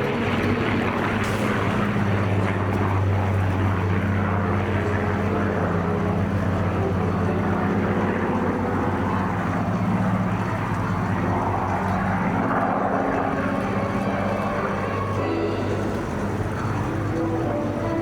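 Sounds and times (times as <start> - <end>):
propeller aircraft engine drone: 0.0 - 18.0.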